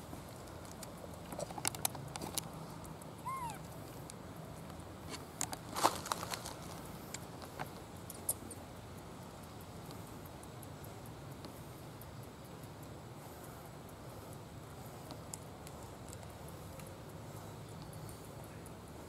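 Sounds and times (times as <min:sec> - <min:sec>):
light clicks and rustles: 0:00.0 - 0:19.0
low background hiss: 0:00.0 - 0:19.0.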